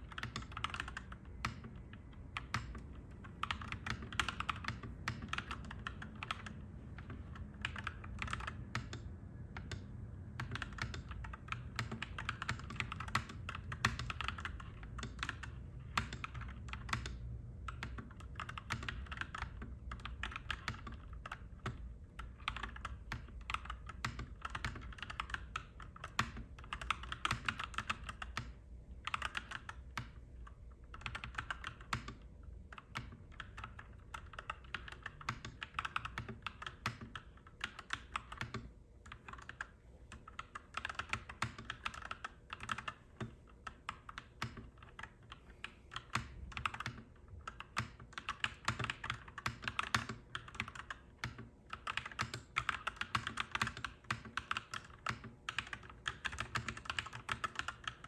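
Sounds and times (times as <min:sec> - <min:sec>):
mechanical keyboard typing: 0:00.0 - 0:58.0.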